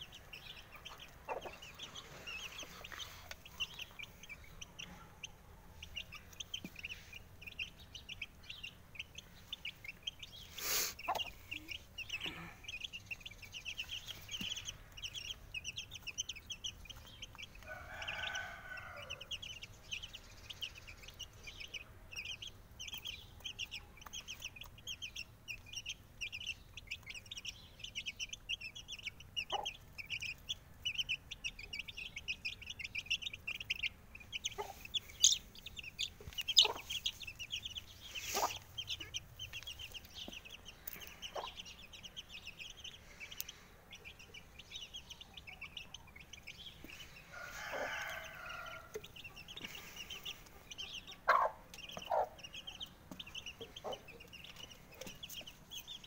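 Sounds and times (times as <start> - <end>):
hen clucking: 0.0 - 19.3, 20.4 - 56.0
chicks peeping: 0.0 - 56.0.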